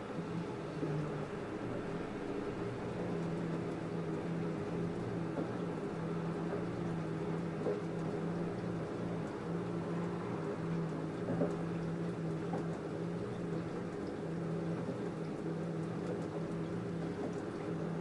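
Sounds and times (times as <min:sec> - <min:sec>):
washing machine motor hum: 0:00.0 - 0:18.0.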